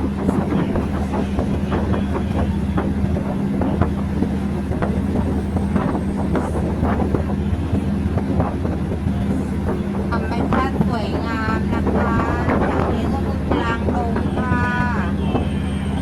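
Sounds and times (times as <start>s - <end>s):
train running drone: 0.0s - 16.0s
wind noise on microphone: 0.0s - 16.0s.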